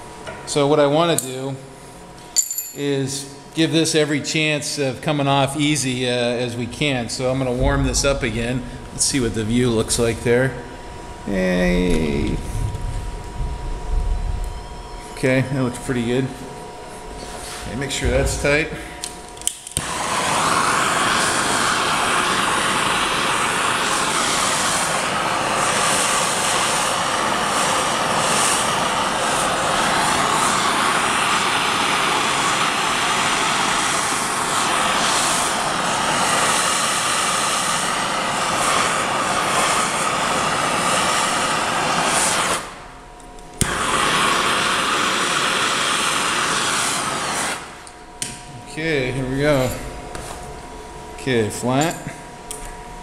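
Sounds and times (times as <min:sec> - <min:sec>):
gas torch roaring hiss: 0:02.8 - 0:52.8.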